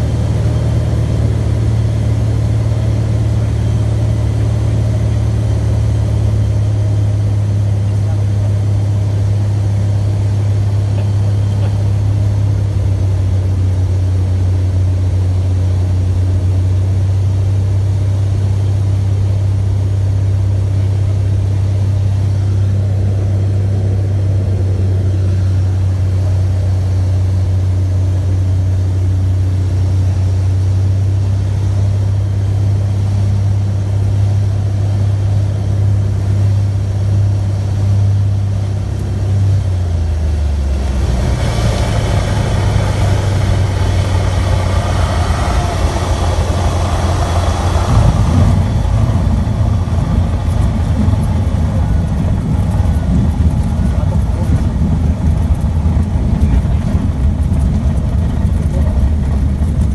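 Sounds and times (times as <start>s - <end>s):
airplane engine droning in flight: 0.0s - 59.9s.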